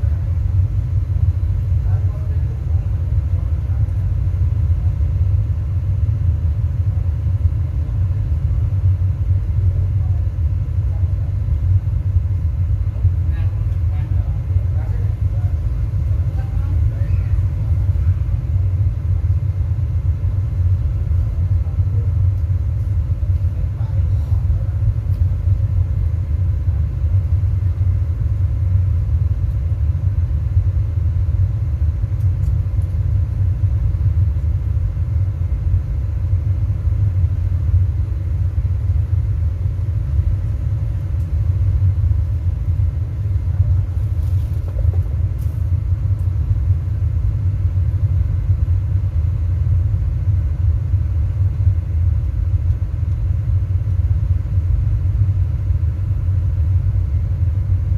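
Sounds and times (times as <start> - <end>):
deep subwoofer bass rumble: 0.0 - 57.9.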